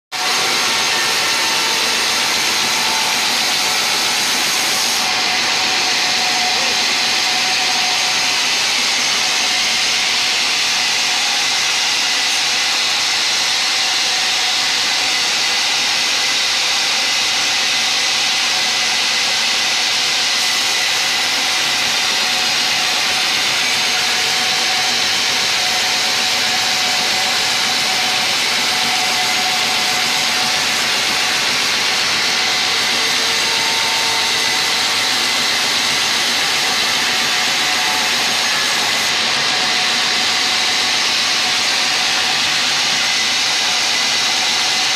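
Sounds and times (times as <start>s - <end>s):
band saw cutting log: 0.1s - 44.9s.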